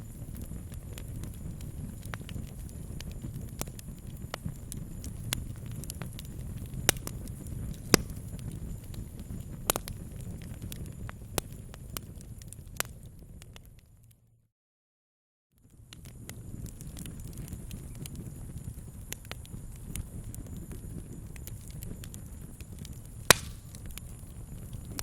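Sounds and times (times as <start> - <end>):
campfire crackling and popping: 0.0 - 14.2, 15.6 - 25.0.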